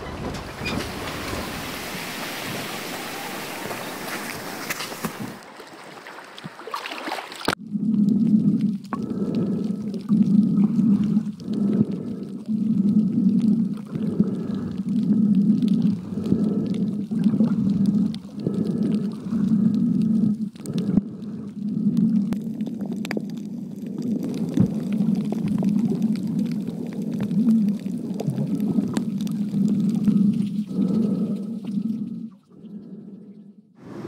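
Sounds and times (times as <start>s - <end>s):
muffled underwater rumbling: 0.0s - 5.4s, 7.5s - 34.0s.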